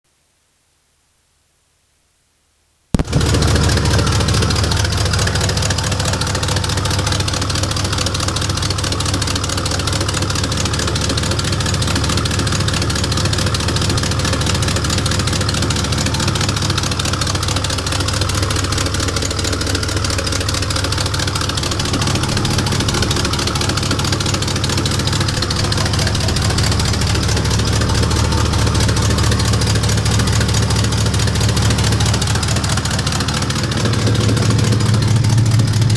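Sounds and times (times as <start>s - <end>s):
engine idling hum: 3.0s - 35.9s
exhaust leak puffing and ticking: 3.0s - 35.9s.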